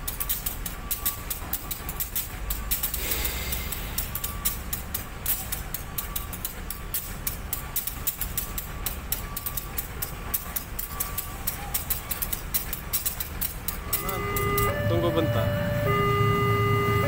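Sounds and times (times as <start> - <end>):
train wheels clicking on track: 0.0 - 14.7
locomotive engine rumble: 0.0 - 17.0.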